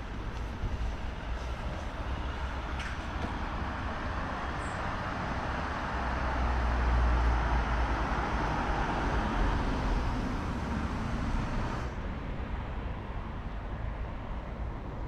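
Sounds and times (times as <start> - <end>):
low rumble of passing vehicles: 0.0 - 15.0.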